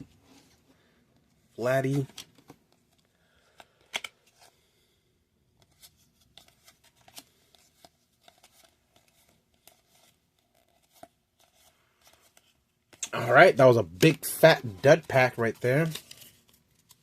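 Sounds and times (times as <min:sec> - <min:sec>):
cards being flipped through: 0:01.6 - 0:04.7, 0:05.6 - 0:13.1, 0:14.0 - 0:17.0.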